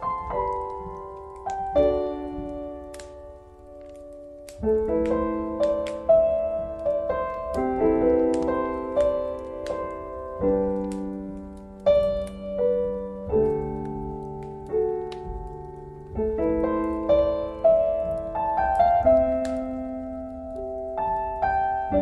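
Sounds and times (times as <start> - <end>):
fireplace crackling: 0.0 - 22.0
slow solo piano music: 0.0 - 22.0.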